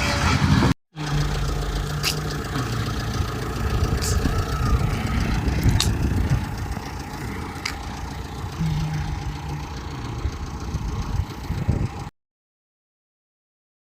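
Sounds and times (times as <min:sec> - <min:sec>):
car engine idling: 0:00.1 - 0:12.1.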